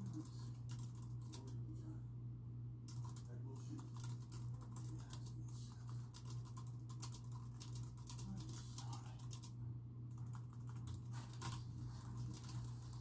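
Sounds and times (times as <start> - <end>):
fast typing on keyboard: 0.0 - 1.6, 2.9 - 13.0
steady low hum: 0.0 - 13.0.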